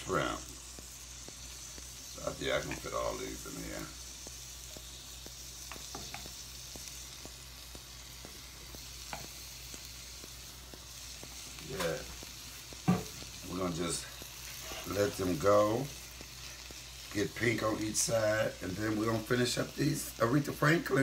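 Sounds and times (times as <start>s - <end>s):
shrimp sizzling in a skillet: 0.0s - 21.0s.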